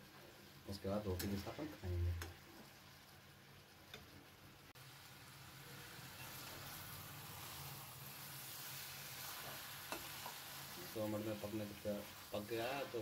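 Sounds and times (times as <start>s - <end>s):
faint sizzling in pan: 0.0s - 13.0s.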